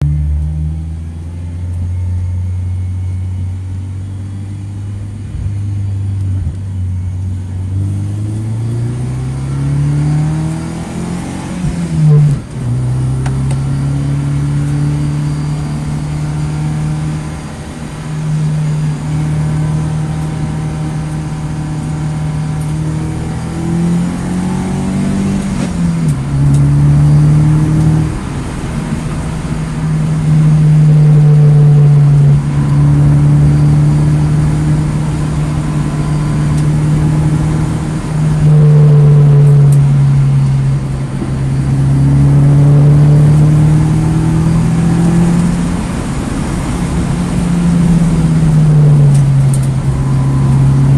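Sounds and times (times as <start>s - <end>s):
car engine revving and shifting: 0.0s - 50.9s.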